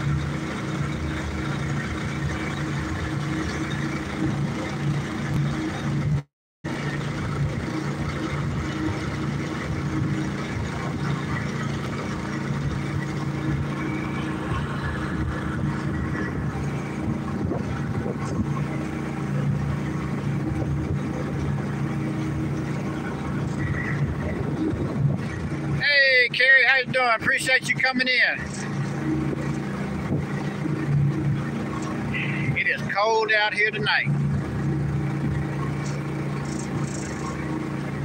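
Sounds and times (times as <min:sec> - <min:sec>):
small boat engine humming: 0:00.0 - 0:38.0.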